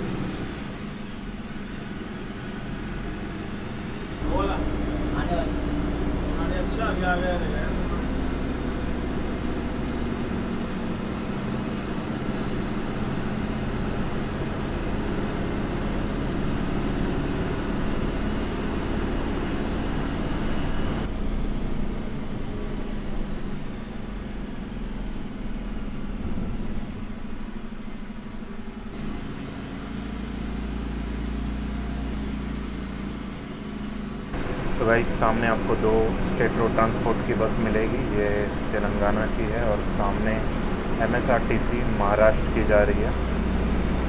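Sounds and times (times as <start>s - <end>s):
bus diesel engine running: 0.0s - 44.0s
road and tyre noise: 0.0s - 44.0s.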